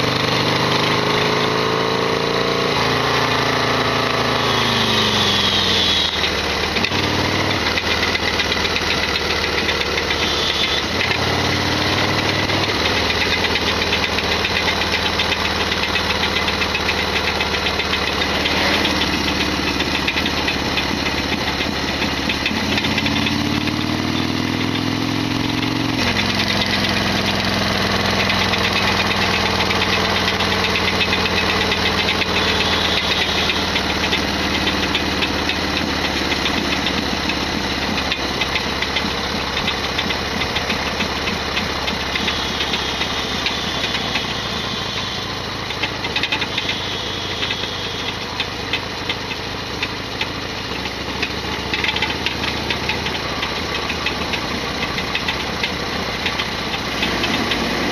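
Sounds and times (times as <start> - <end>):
engine rattling and clattering: 0.0 - 57.9
motorcycle engine running: 0.0 - 57.9.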